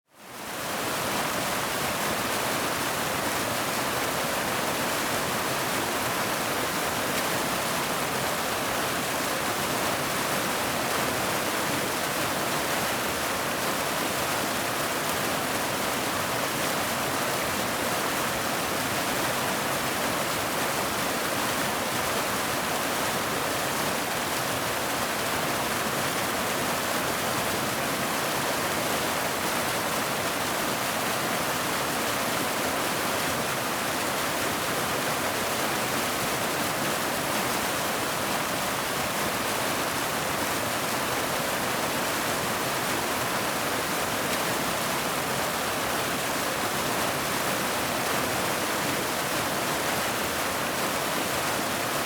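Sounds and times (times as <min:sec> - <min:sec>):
waterfall rushing: 0:00.4 - 0:52.0.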